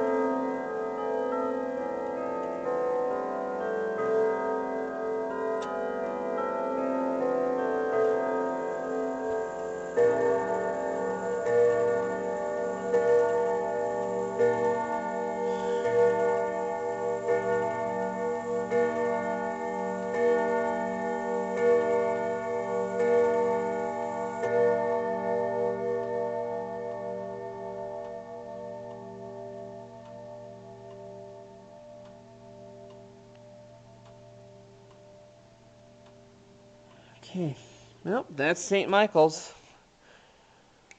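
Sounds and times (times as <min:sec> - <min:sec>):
clock chime strokes: 0:00.0 - 0:39.2
clock ticking: 0:05.3 - 0:39.4.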